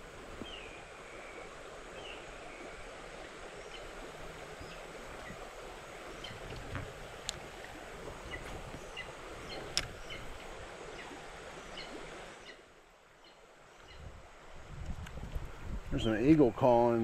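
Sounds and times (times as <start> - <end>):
river water over rocks: 0.0 - 17.0.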